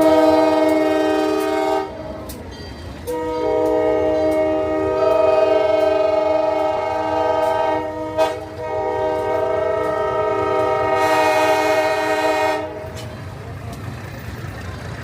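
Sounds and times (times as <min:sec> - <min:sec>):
steam locomotive chime whistle: 0:00.0 - 0:13.1.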